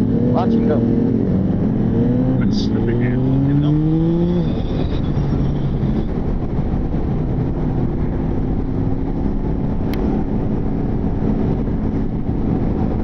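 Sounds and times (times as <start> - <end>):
motorcycle engine: 0.0 - 13.0
wind rush: 0.8 - 13.0.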